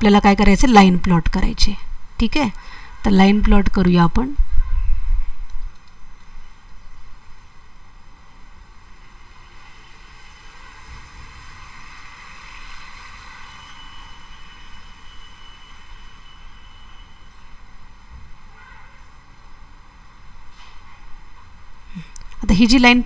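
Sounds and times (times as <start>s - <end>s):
background hiss: 0.0s - 23.0s
faint high whine: 0.0s - 23.0s.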